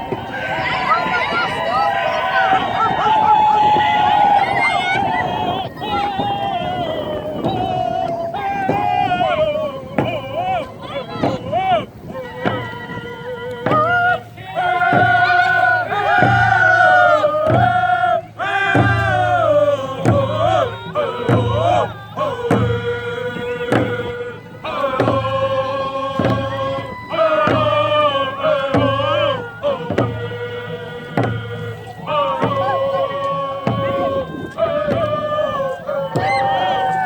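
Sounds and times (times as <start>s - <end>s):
group of voices chanting: 0.0s - 37.0s
steady drum beat: 0.0s - 37.0s.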